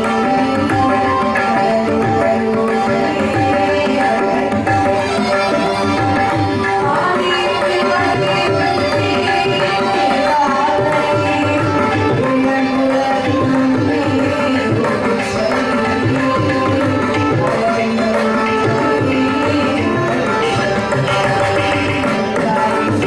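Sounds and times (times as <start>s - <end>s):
hand drum playing: 0.0s - 23.0s
woman singing devotional song: 0.0s - 23.0s.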